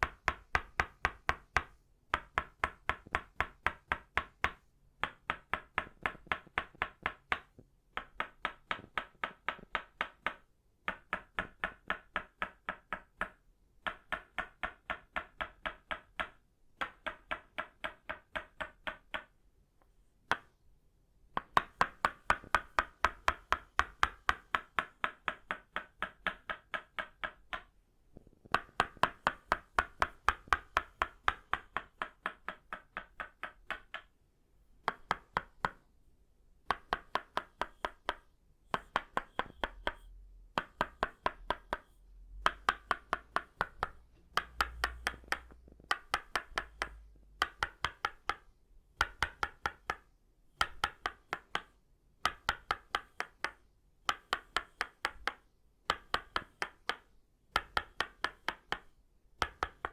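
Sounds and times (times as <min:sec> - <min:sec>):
wooden mallet knocking on wooden peg: 0:00.0 - 0:19.4, 0:21.4 - 0:34.1, 0:36.7 - 0:59.9.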